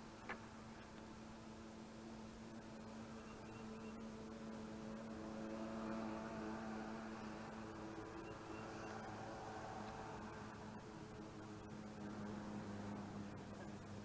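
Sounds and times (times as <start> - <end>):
electric boat motor humming: 0.0 - 14.0.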